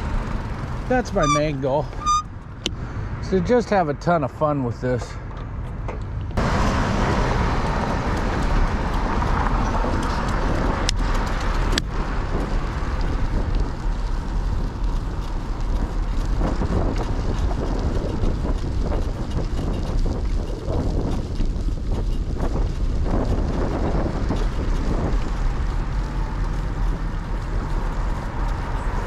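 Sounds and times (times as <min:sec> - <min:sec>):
wind buffeting microphone: 0:05.5 - 0:29.0.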